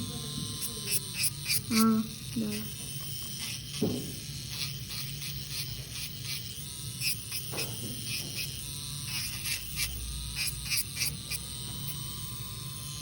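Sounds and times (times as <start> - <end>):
electric nail drill whining: 0.0 - 13.0.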